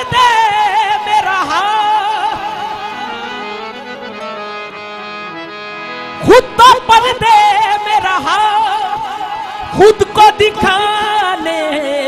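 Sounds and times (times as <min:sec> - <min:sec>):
man singing: 0:00.0 - 0:04.0, 0:06.2 - 0:12.0
harmonium: 0:00.0 - 0:12.0.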